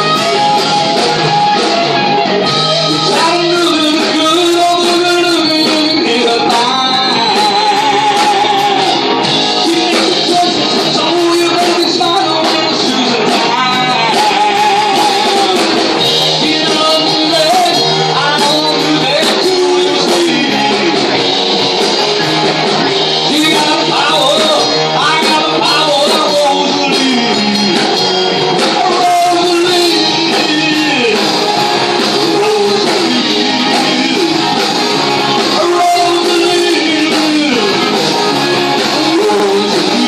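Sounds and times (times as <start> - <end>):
bass guitar: 0.0 - 40.0
drums: 0.0 - 40.0
electric guitar: 0.0 - 40.0
man singing lead vocal: 2.4 - 40.0.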